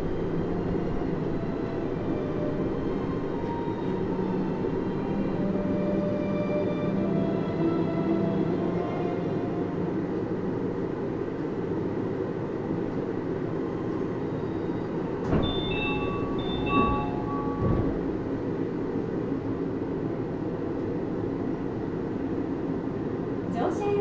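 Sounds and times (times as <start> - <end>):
monorail car interior rumble: 0.0 - 24.0.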